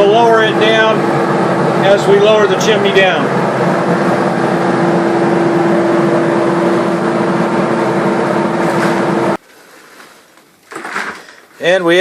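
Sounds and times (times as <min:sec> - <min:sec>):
extraction fan running: 0:00.0 - 0:12.0.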